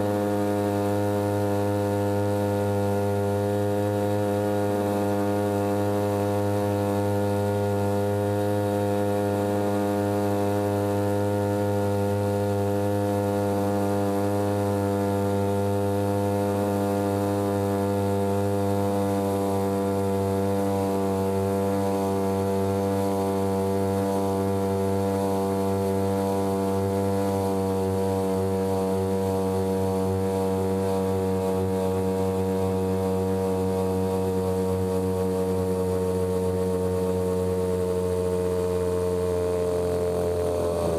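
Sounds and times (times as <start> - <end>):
small boat engine running: 0.0 - 40.9.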